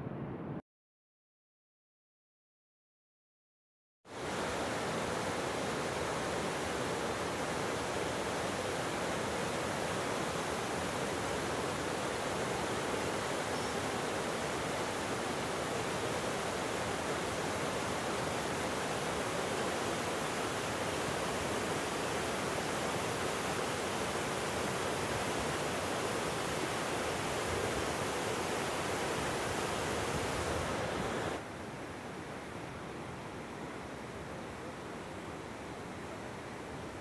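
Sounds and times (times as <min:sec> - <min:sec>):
river rushing over boulders: 0:04.2 - 0:37.0.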